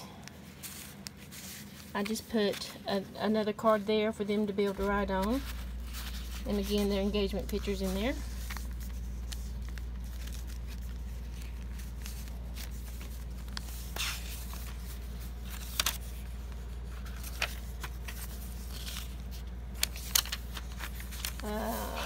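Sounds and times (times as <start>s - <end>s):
low background hum: 0.0s - 22.0s
paper pages rustling: 0.2s - 2.9s, 4.4s - 22.0s.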